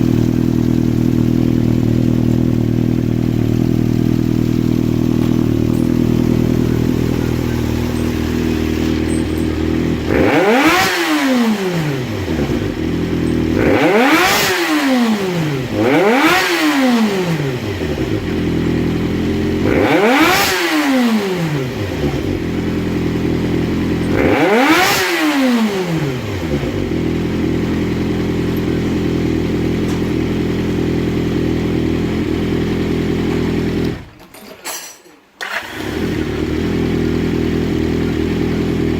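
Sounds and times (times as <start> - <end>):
motorcycle engine idling and revving: 0.0 - 34.4, 35.4 - 38.9.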